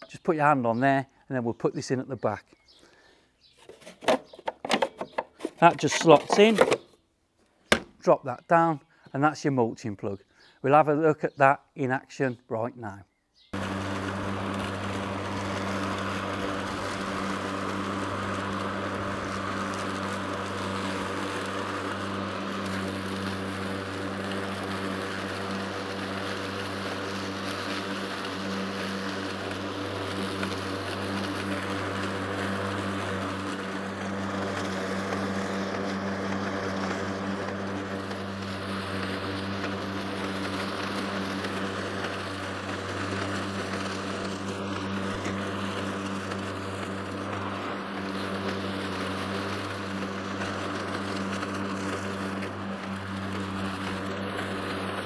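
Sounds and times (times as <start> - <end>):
lawnmower motor humming: 2.6 - 7.0, 13.5 - 55.0.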